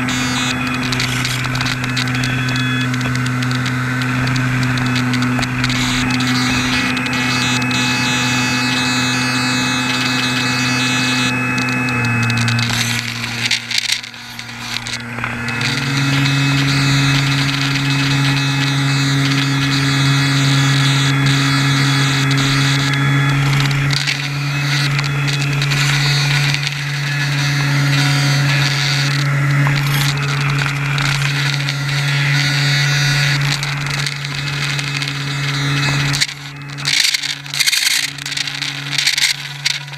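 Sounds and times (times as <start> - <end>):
electric motor and propeller buzzing: 0.0 - 39.9.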